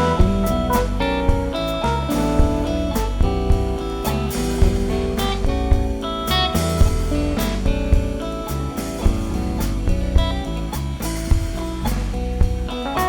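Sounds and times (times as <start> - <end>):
bass guitar: 0.0 - 13.0
drum hits: 0.0 - 13.0
electric guitar playing: 0.0 - 13.0.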